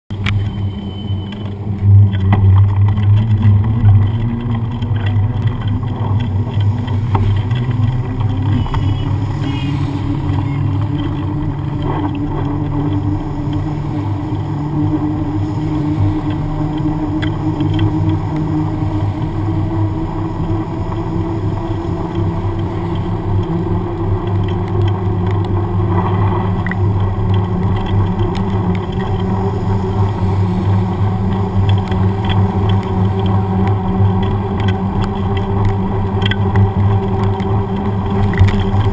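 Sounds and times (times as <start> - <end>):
bike tyre rolling on wet road: 0.1 - 38.9.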